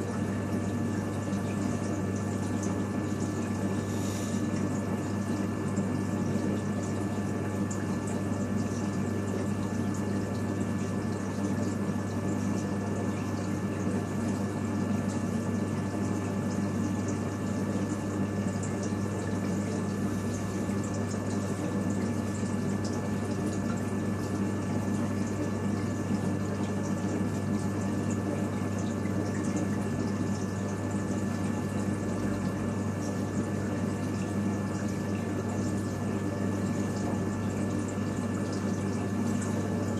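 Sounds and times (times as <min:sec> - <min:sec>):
aquarium pump humming: 0:00.0 - 0:39.9
water trickling and sloshing: 0:00.0 - 0:39.9.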